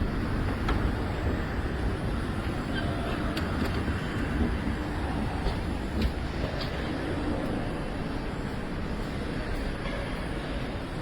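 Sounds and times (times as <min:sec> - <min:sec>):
escalator mechanical rumble: 0:00.0 - 0:11.0.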